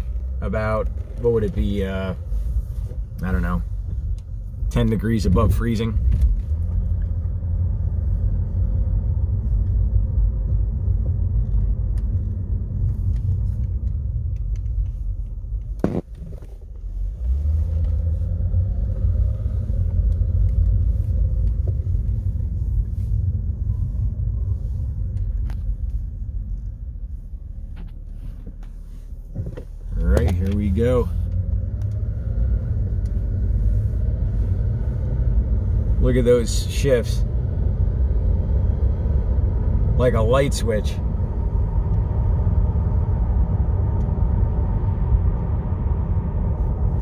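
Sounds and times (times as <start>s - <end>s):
car engine rumble inside cabin: 0.0s - 47.0s.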